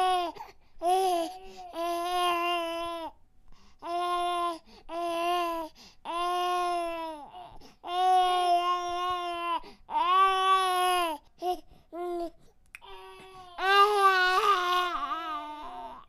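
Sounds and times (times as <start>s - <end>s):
infant crying: 0.0s - 3.2s, 3.8s - 16.0s.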